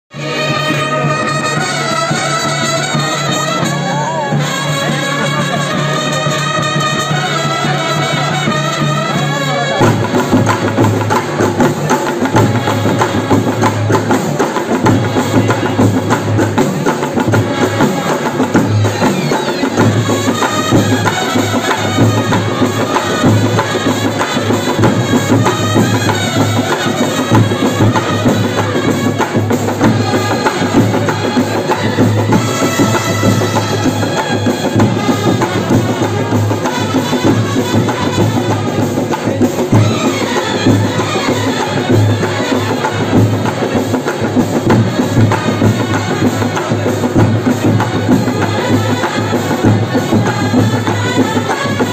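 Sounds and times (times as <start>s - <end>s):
brass band horns: 0.1s - 51.9s
drums fast beat: 0.1s - 51.9s.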